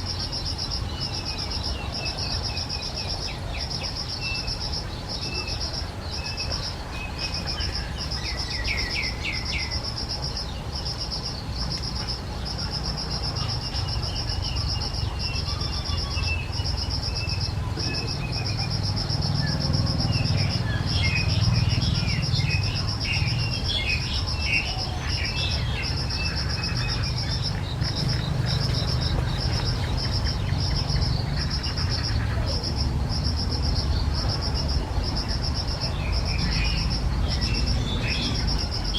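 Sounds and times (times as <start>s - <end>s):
birds chirping: 0.0s - 38.9s
insect chorus pulsing: 0.0s - 38.9s.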